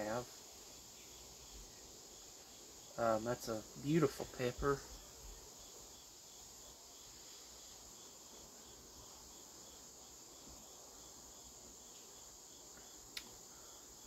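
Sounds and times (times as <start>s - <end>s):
faint high-pitched hiss: 0.0s - 14.0s.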